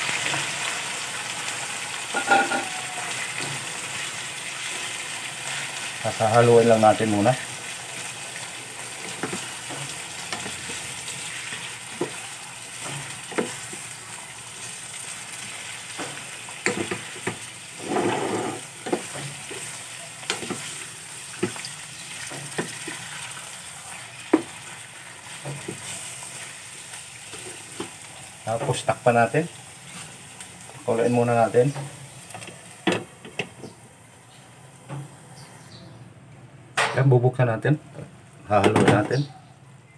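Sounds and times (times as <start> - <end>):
meat sizzling in a pan: 0.0 - 33.2.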